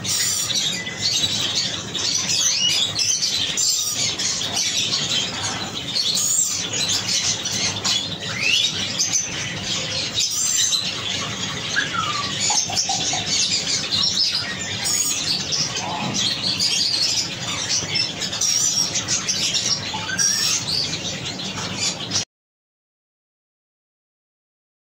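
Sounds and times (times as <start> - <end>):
steady low hum: 0.0 - 22.2
birds chirping and chattering: 0.0 - 22.3.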